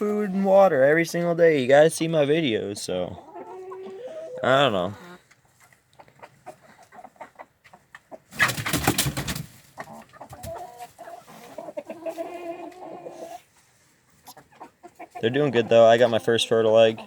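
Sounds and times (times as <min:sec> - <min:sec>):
chickens rustling: 0:00.0 - 0:17.0
chicken clucking call: 0:03.0 - 0:17.0.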